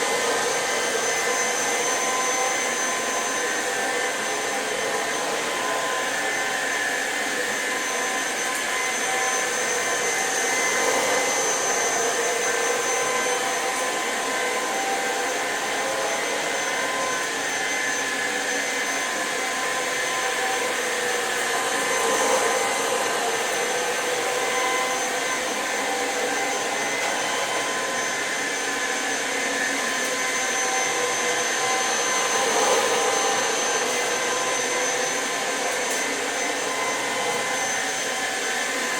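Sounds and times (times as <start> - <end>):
stick vacuum running: 0.0 - 38.9.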